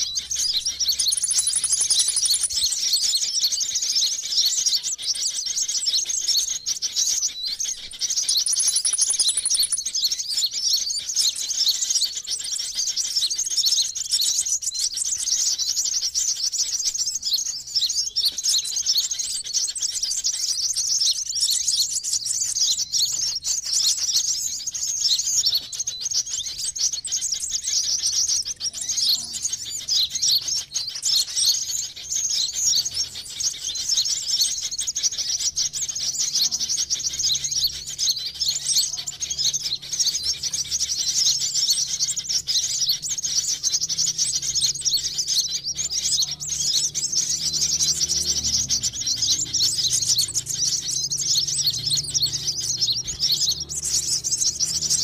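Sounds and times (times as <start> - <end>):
rapid high-pitched bird chirps: 0.0 - 55.0.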